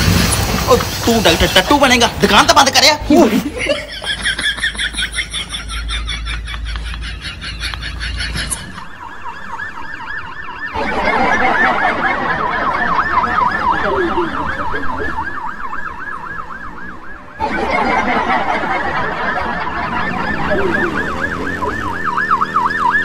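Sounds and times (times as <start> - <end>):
emergency siren yelping: 4.5 - 23.0.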